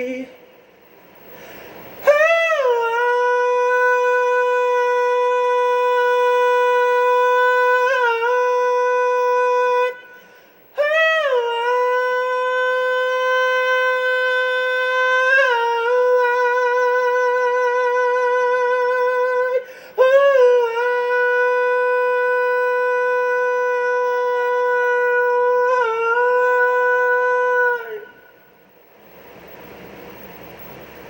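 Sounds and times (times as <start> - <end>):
person singing long high notes: 2.0 - 28.5.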